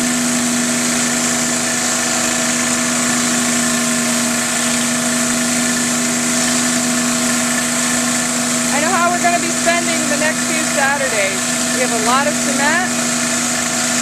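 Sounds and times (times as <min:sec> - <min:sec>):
pressure washer engine hum: 0:00.0 - 0:14.0
water spray hissing: 0:00.1 - 0:14.0.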